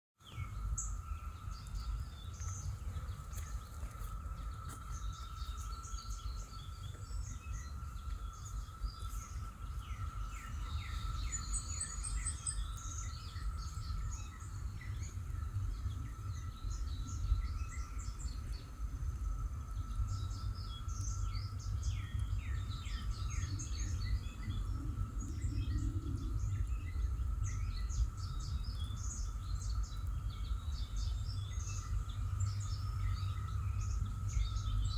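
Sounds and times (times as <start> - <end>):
songbirds chirping and singing: 0.2 - 34.9
steady low rumble: 0.4 - 34.9.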